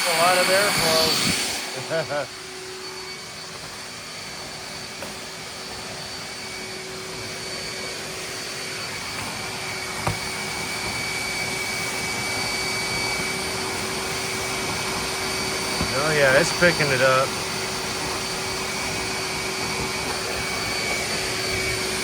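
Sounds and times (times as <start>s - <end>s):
wet vacuum whining: 0.0s - 22.0s.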